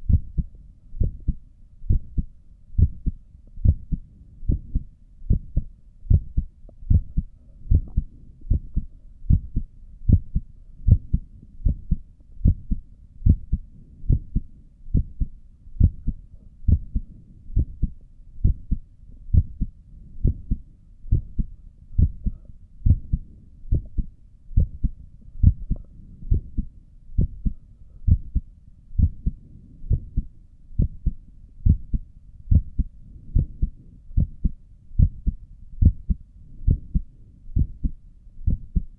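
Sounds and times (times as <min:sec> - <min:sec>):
heartbeat thumps: 0:00.0 - 0:38.9.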